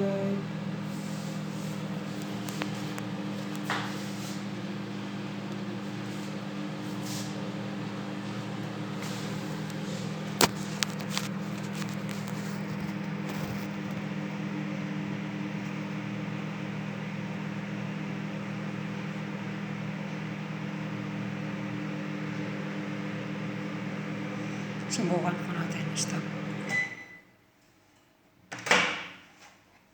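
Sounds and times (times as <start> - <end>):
microwave oven humming: 0.0 - 27.6.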